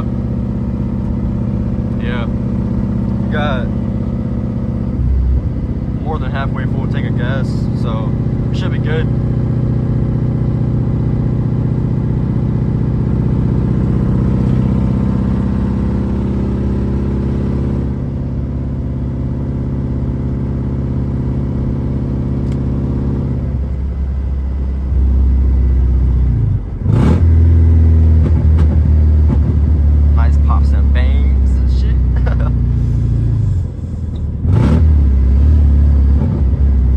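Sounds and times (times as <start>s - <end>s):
loud car exhaust drone: 0.0s - 36.9s.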